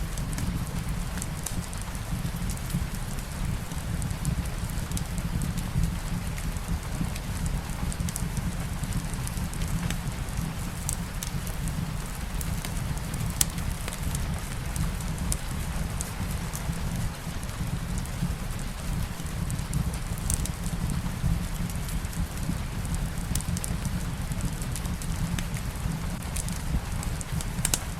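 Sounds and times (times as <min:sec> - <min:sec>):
fireplace crackling: 0:00.0 - 0:27.9
soft rain: 0:00.0 - 0:27.9.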